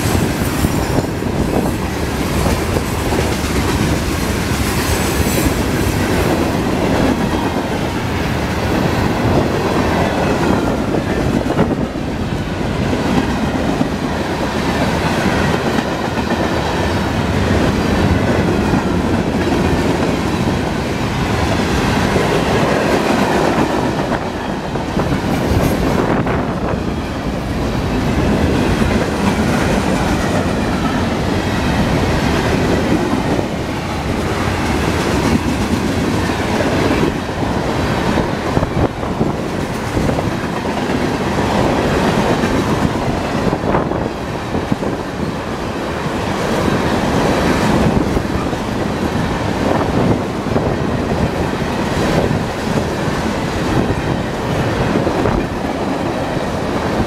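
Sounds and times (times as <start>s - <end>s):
steel wheels on rail: 0.0s - 57.0s.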